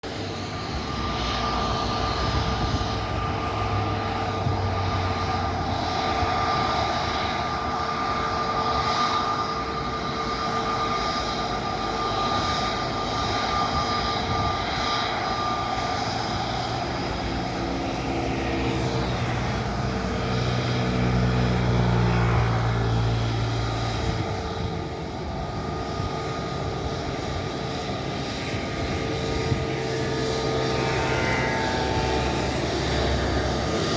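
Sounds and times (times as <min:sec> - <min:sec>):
jet engines at takeoff thrust: 0:00.0 - 0:33.9.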